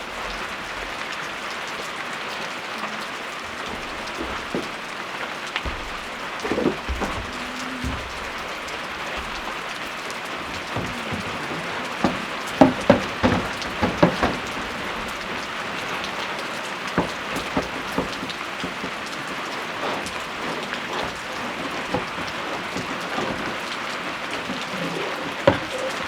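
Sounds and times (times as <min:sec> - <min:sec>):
rain falling: 0:00.0 - 0:26.0
heavy drops striking a surface: 0:03.6 - 0:26.0.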